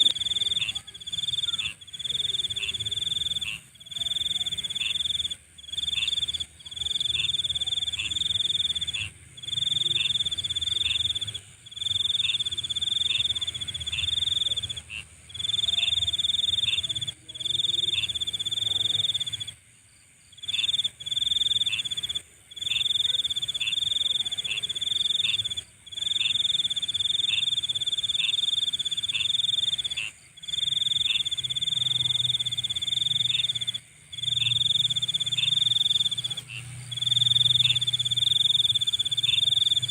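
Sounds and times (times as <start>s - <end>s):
cricket-like insect trill: 0.0s - 39.9s.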